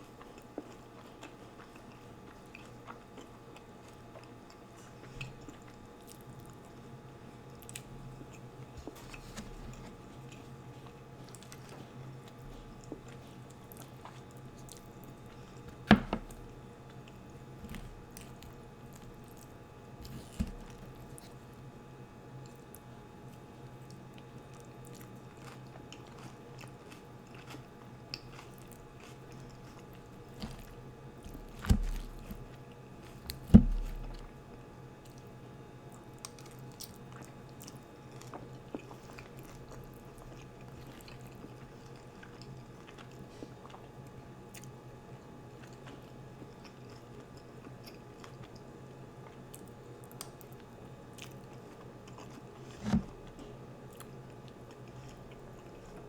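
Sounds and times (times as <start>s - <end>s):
person chewing food: 0.0s - 21.6s, 23.8s - 35.3s, 35.9s - 44.8s, 45.5s - 56.0s.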